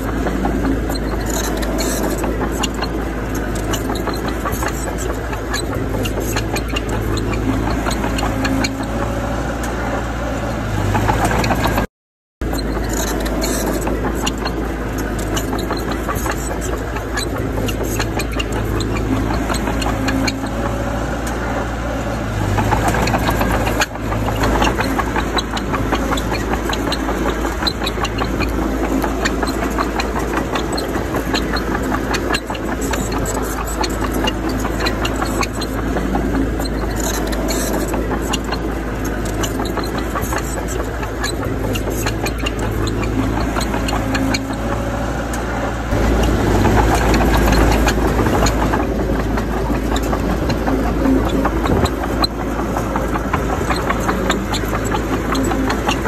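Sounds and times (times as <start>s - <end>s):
dense clatter of clicks: 0.0s - 8.9s, 10.9s - 21.4s, 22.4s - 44.9s, 45.9s - 56.0s
diesel engine running: 0.0s - 56.0s.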